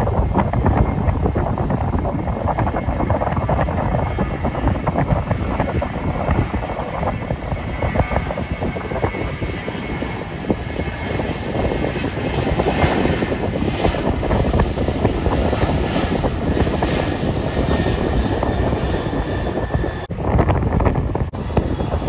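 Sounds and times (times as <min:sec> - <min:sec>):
jet engines rumbling and whining: 0:00.0 - 0:22.0.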